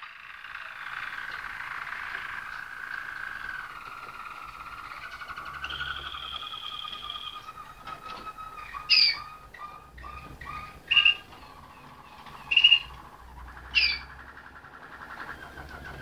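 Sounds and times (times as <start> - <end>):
canary singing: 0.0 - 16.0
loud sharp chirps: 0.1 - 7.8, 8.5 - 14.1.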